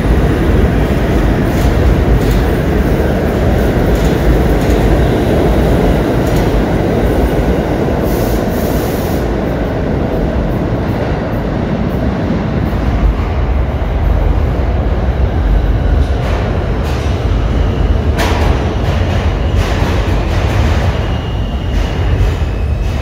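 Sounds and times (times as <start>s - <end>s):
subway train wheels rumbling: 0.0s - 23.0s.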